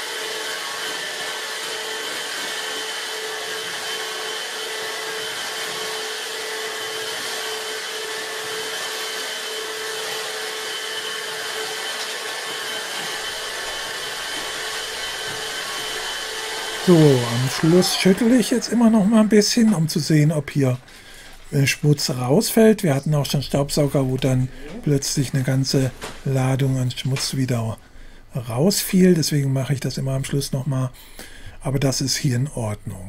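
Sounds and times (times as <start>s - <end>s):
vacuum cleaner motor whining: 0.0s - 27.4s.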